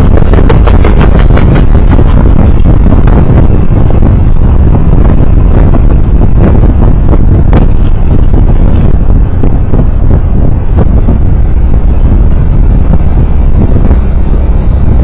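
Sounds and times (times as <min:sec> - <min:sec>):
road noise: 0:00.0 - 0:15.0
wind rumble on microphone: 0:00.0 - 0:15.0.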